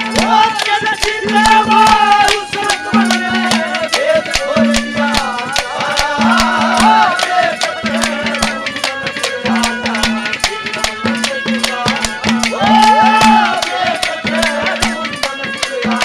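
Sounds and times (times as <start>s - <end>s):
hand drum beating quick rhythm: 0.0s - 16.0s.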